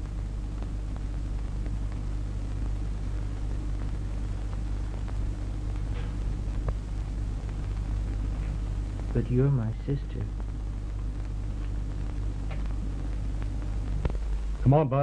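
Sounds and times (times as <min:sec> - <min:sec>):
faint crackles: 0:00.0 - 0:15.0
film soundtrack hum and hiss: 0:00.0 - 0:15.0.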